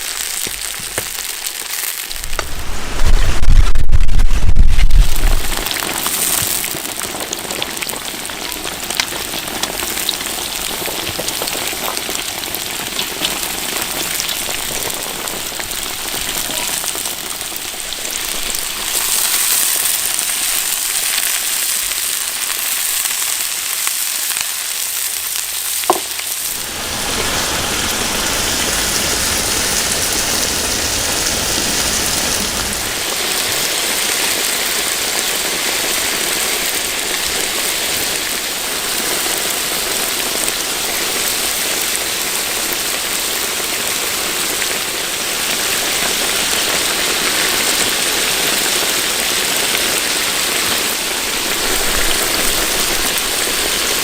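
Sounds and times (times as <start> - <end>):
food sizzling in hot oil: 0.0 - 54.0.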